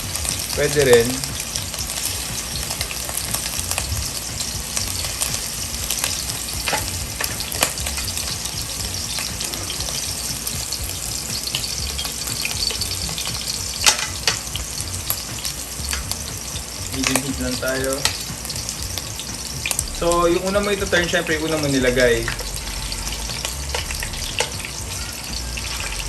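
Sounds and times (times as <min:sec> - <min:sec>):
meatballs sizzling in oil: 0:00.0 - 0:26.0
oil popping: 0:00.0 - 0:26.0.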